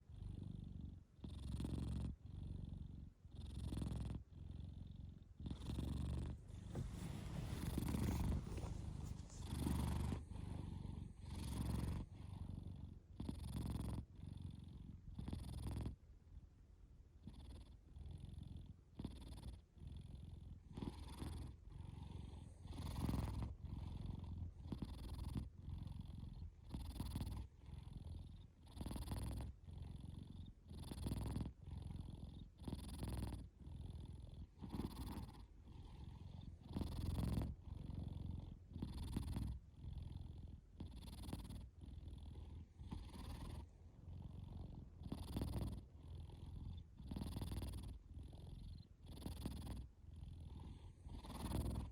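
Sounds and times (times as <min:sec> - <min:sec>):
cat snoring: 0:00.0 - 0:16.0, 0:17.2 - 0:51.9.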